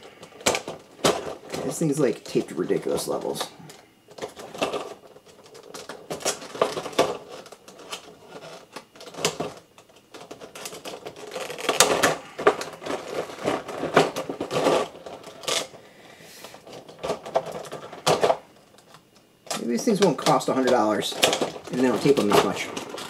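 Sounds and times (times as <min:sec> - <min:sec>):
plastic packaging crackling: 0:00.0 - 0:15.9, 0:16.5 - 0:23.0.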